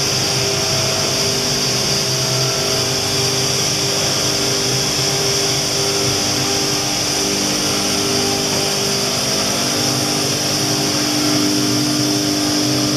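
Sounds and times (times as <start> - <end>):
high whine: 0.0 - 12.9
machine motor hum: 0.0 - 12.9.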